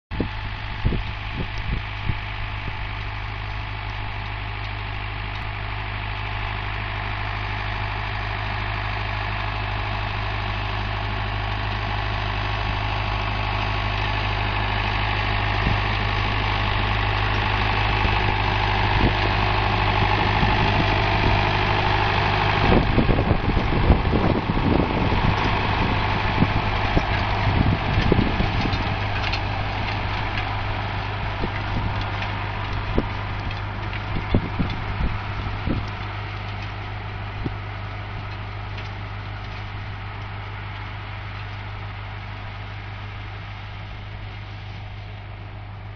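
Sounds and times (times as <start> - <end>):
tractor diesel engine running: 0.1 - 45.9.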